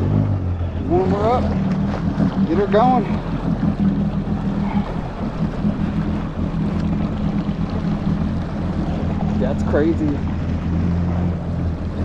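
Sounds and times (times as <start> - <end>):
jet ski engine idling: 0.0 - 12.0.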